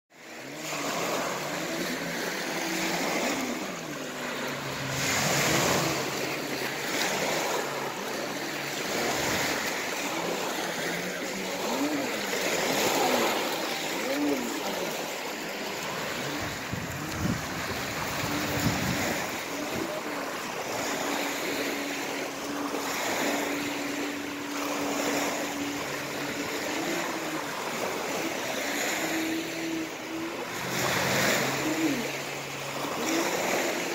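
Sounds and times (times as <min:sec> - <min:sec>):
faint boat engine hum: 0:00.1 - 0:33.9
waves breaking on pebble shore: 0:00.2 - 0:33.9.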